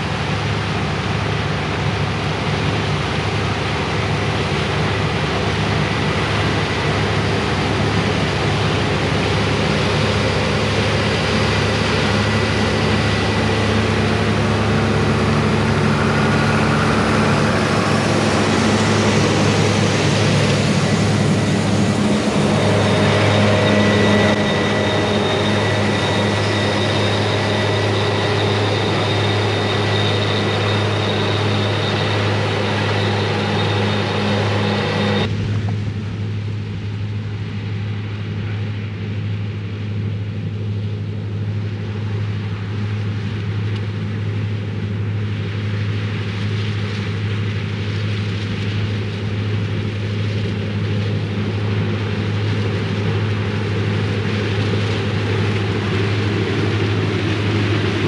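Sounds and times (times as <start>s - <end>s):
thin high whine: 0.0s - 38.0s, 40.0s - 58.0s
combine harvester humming: 0.0s - 58.0s.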